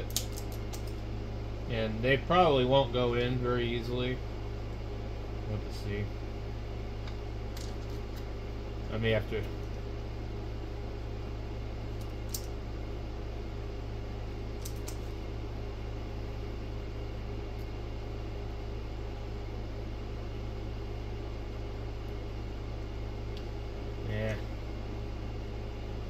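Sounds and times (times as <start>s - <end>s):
electrical hum: 0.0s - 26.0s
fan hiss: 0.0s - 26.0s.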